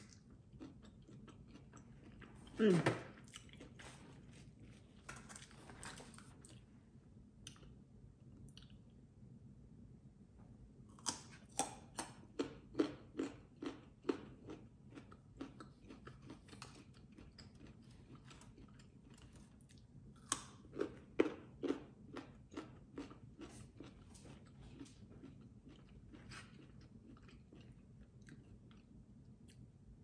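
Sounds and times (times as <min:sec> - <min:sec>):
carrot crunching and chewing: 0:00.0 - 0:06.7, 0:10.9 - 0:29.7.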